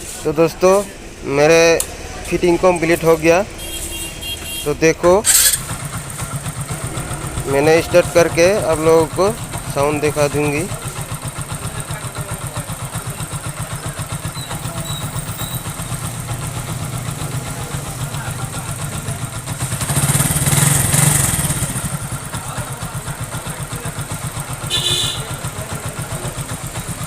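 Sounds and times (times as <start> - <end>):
motorcycle engine idling and revving: 0.0 - 27.0.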